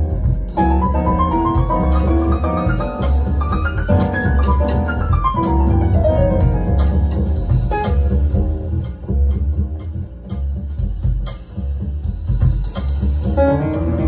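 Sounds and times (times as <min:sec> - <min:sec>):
double bass line: 0:00.0 - 0:14.0
jazz piano: 0:00.0 - 0:14.0.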